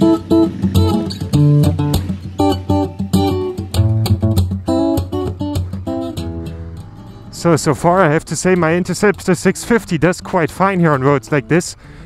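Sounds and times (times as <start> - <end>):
steady low notes: 0.0 - 12.0
strummed acoustic guitar: 0.0 - 12.0.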